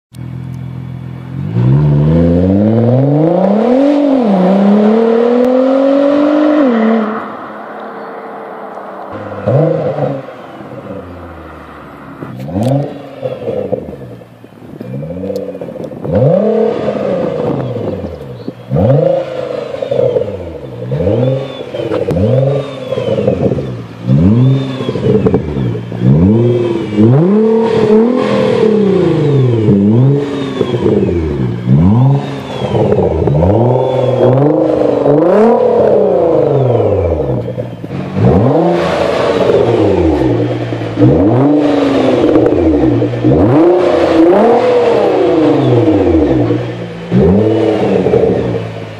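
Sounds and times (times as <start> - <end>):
car engine revving: 0.2 - 48.9.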